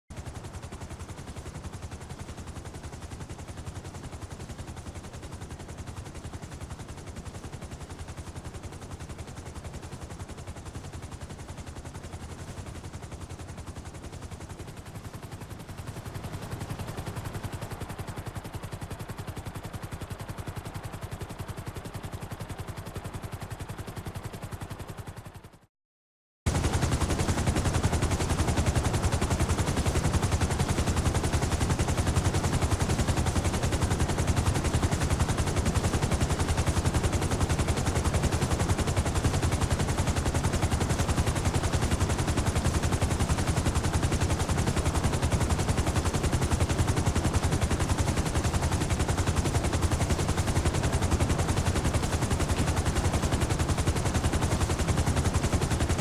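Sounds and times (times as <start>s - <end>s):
helicopter rotor chopping: 0.2s - 25.7s, 26.5s - 56.0s.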